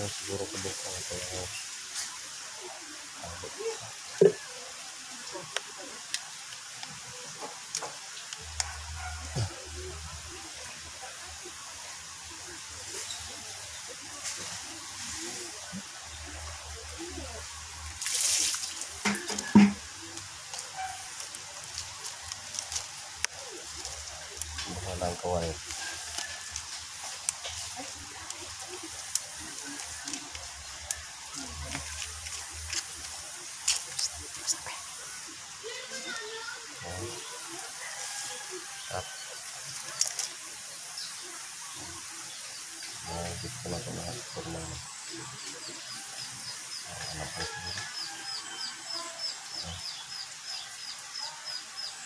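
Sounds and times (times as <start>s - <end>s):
branches rustling: 0.0s - 52.0s
steady hiss: 0.0s - 52.0s.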